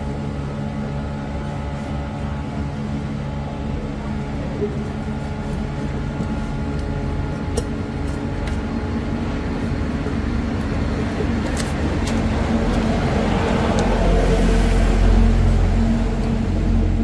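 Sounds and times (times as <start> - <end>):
mechanical hum with low rumble: 0.0 - 17.0.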